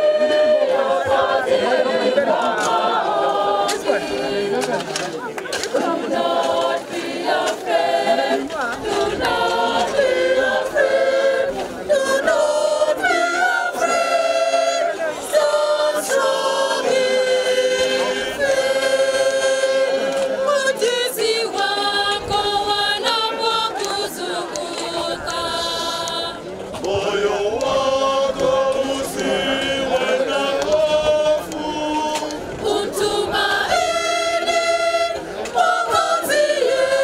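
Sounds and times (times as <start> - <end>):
choir singing unaccompanied: 0.0 - 37.0.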